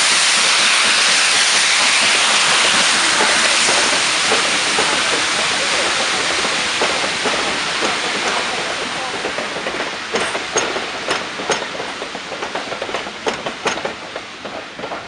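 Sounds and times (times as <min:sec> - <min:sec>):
train coaches rumbling past: 0:00.0 - 0:15.0
wheels clicking over rail joints: 0:00.0 - 0:15.0.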